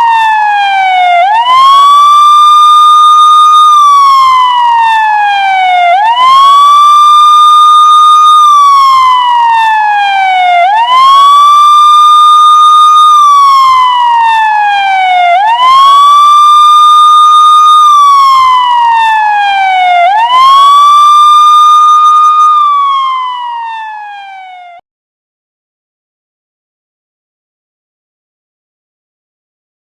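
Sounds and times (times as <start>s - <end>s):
police siren wailing: 0.0s - 24.8s.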